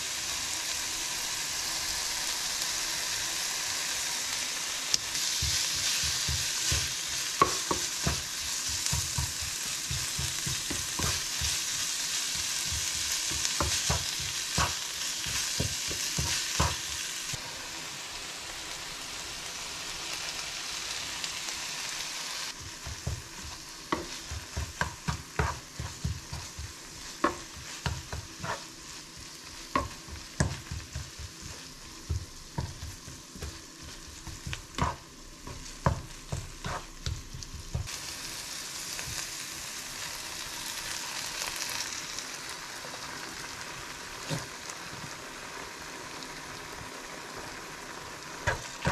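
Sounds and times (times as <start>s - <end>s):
meat and onions sizzling in a pan: 0.0s - 48.9s.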